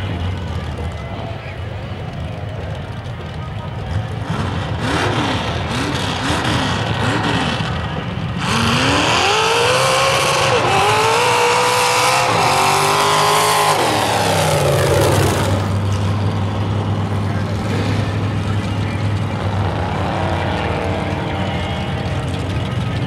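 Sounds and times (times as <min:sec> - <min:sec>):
truck accelerating through gears: 0:00.0 - 0:23.0
truck engine revving: 0:00.0 - 0:23.0.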